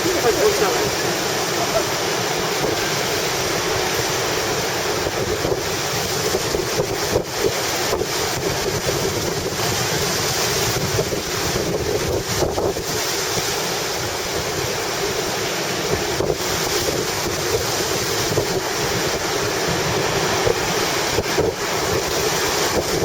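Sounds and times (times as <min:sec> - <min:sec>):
gusty wind buffeting microphone: 0:00.0 - 0:23.0
surf breaking on beach: 0:00.0 - 0:23.0.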